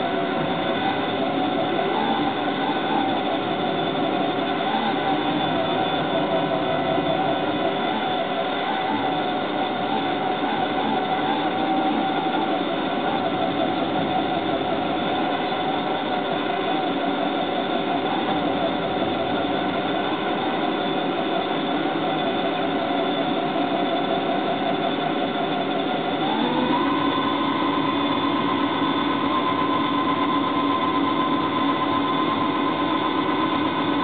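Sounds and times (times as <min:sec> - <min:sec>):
propeller drive mechanical whine: 0:00.0 - 0:34.0.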